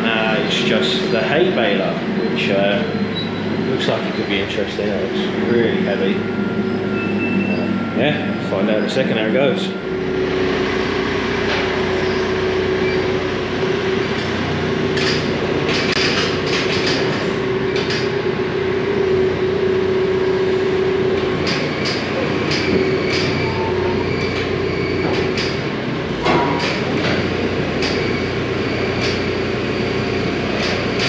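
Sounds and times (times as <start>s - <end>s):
machine engine droning hum: 0.0s - 31.0s.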